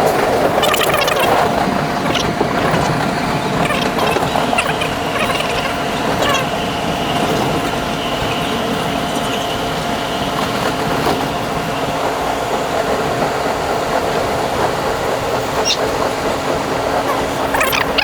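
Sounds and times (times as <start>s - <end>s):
subway train running rumble: 0.0s - 18.0s
train rattling: 0.0s - 18.0s.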